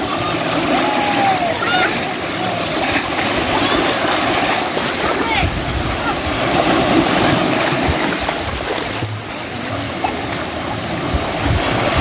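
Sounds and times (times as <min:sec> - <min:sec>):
small waves breaking on shore: 0:00.0 - 0:12.0.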